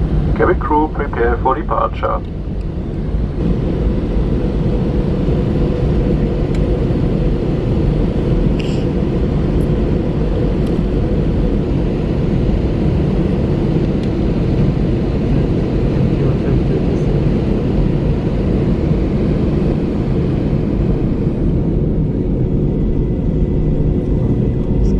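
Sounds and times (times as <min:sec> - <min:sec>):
airliner cabin engine rumble: 0:00.0 - 0:24.9.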